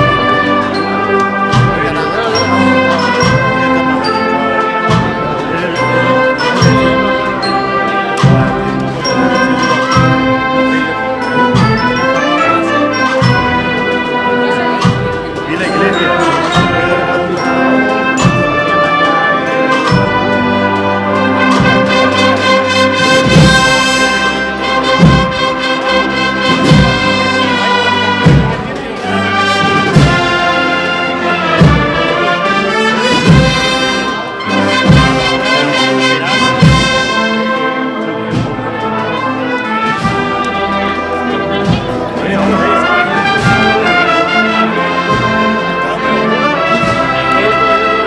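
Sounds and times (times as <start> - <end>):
brass band playing a march: 0.0 - 48.0
heavy drum strokes: 0.0 - 48.0.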